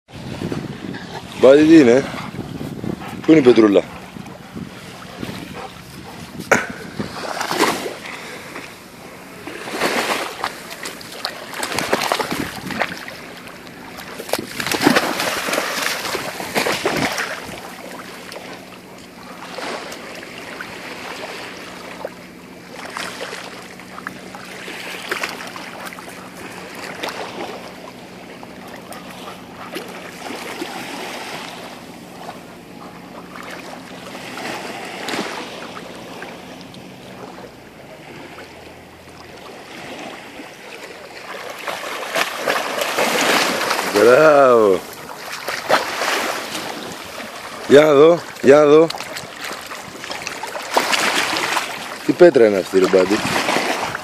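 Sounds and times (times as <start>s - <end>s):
water splashing as dog wades: 0.3s - 54.0s.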